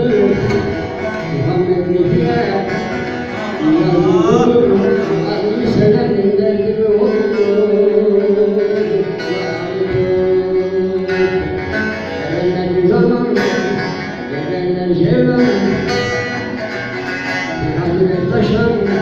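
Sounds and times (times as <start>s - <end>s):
person singing long held lines: 0.0s - 16.0s
long-necked lute melody: 0.0s - 19.0s.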